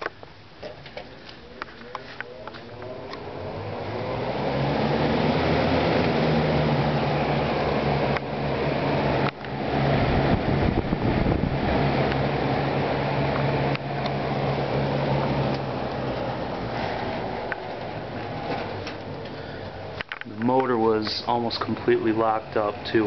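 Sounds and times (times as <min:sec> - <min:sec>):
box fan humming: 0:00.0 - 0:23.0.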